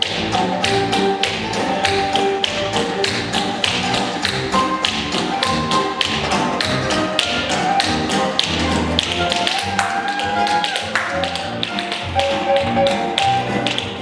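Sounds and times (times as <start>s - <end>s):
music with held notes: 0.0s - 14.0s.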